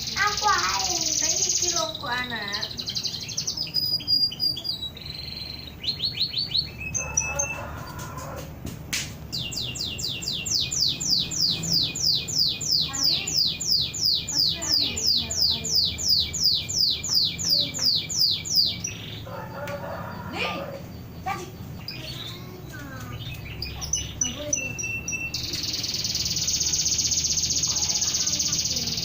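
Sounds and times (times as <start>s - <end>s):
canary singing: 0.0s - 8.6s, 9.2s - 29.0s.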